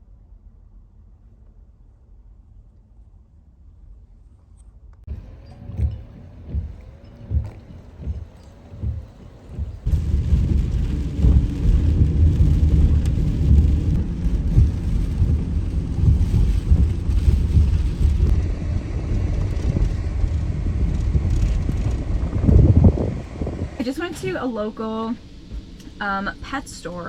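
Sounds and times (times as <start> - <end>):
vehicle driving rumble: 5.1 - 27.0.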